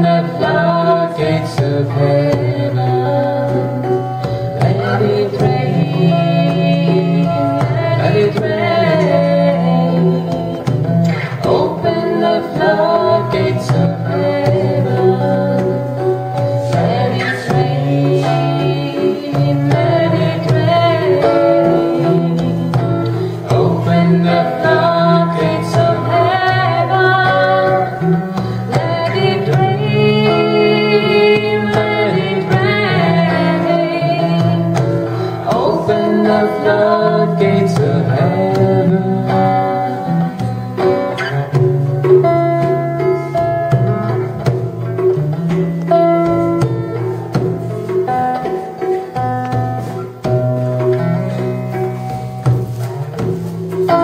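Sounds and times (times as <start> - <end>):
hand drum beating: 0.0 - 54.0
person singing: 0.0 - 54.0.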